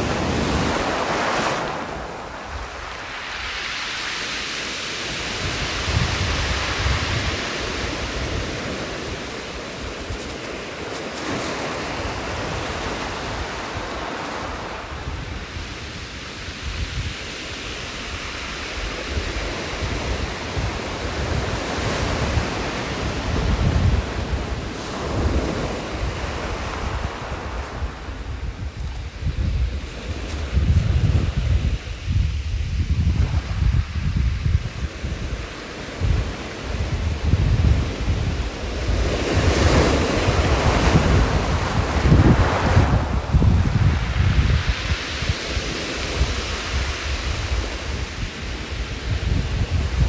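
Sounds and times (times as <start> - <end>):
ocean waves breaking on shore: 0.0 - 50.0
wind buffeting microphone: 0.0 - 50.0.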